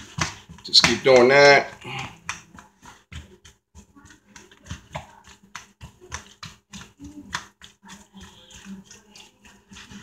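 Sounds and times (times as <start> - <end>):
fork tapping plastic bowl: 0.0 - 10.0.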